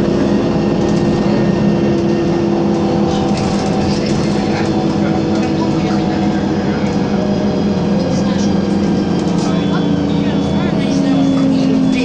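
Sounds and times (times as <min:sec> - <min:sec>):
bus engine droning: 0:00.0 - 0:12.0
road noise: 0:00.0 - 0:12.0.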